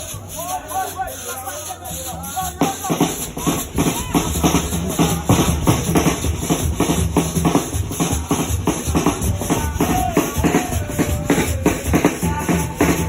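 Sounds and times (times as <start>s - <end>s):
bass drum beat: 0.0s - 13.0s
hand percussion: 0.0s - 13.0s.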